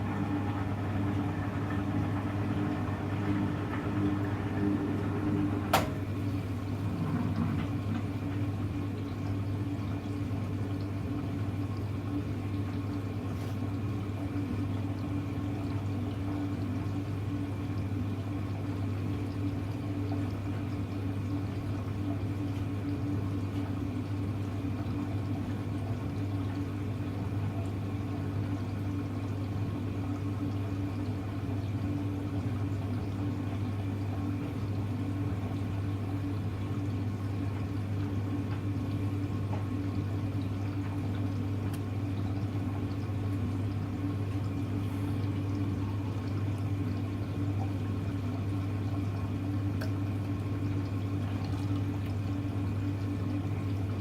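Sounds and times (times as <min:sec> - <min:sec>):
low electrical hum: 0:00.0 - 0:54.0
washing machine water rushing: 0:00.0 - 0:54.0.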